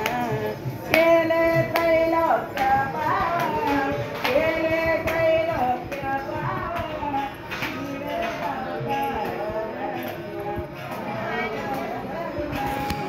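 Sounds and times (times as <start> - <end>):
sharp percussive beats: 0.0 - 13.0.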